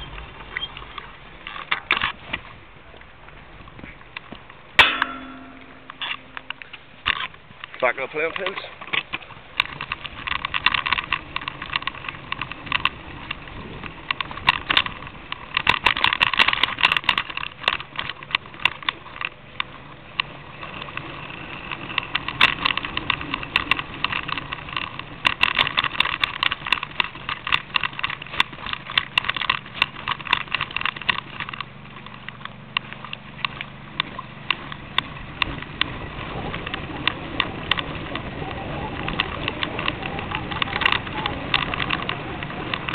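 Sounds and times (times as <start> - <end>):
bicycle clattering and rattling: 0.0 - 42.9
tyre rumble: 0.0 - 42.9.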